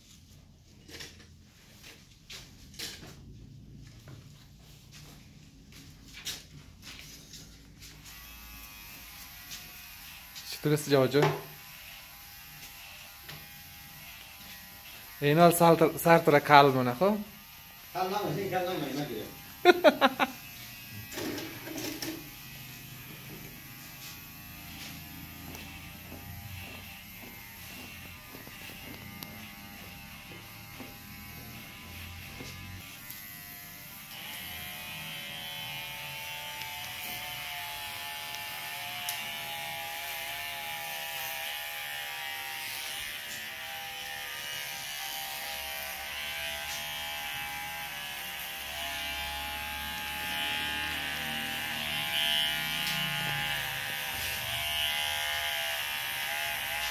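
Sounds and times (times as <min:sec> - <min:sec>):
electric hair clippers buzzing: 0:07.8 - 0:56.9.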